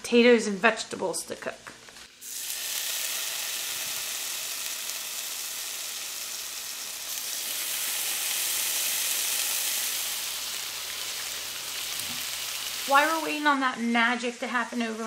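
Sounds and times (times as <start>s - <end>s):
bacon sizzling in frying pan: 1.9s - 15.0s.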